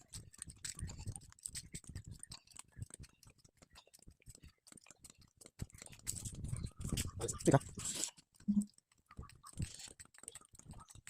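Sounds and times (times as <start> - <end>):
rapid irregular clicking: 0.0 - 11.0.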